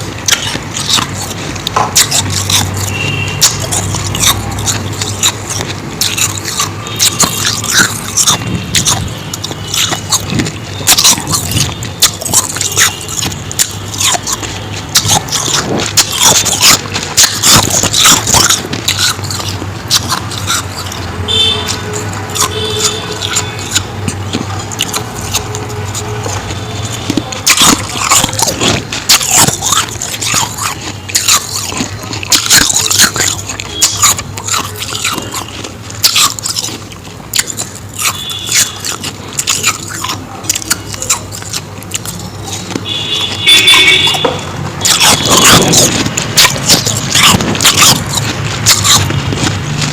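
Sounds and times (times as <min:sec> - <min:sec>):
chewing and crunching ice: 0:00.0 - 0:49.9.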